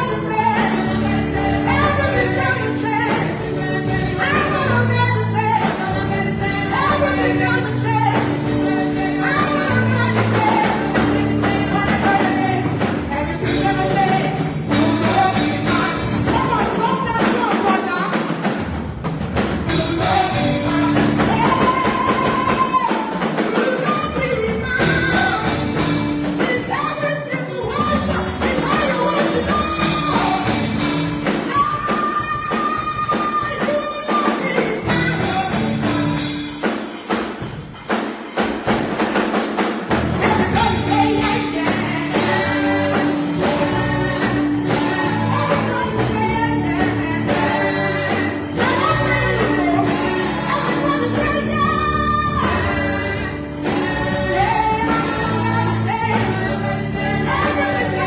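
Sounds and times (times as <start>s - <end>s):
band with bass and percussion: 0.0s - 58.0s
gospel singers: 0.0s - 58.0s.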